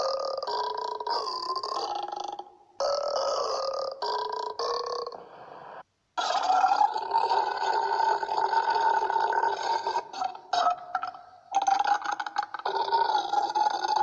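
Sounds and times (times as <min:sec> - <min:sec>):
long human burp: 0:00.0 - 0:05.2, 0:06.2 - 0:14.0.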